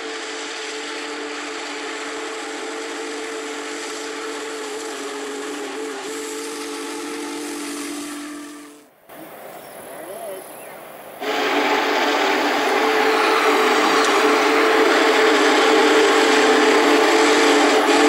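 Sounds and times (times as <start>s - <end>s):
steam hissing: 0.0s - 18.0s
steam locomotive whistle chord: 0.0s - 18.0s.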